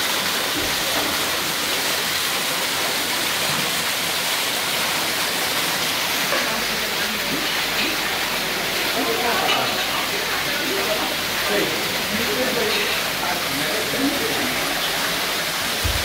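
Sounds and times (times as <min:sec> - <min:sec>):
waterfall splashing into pool: 0:00.0 - 0:16.0.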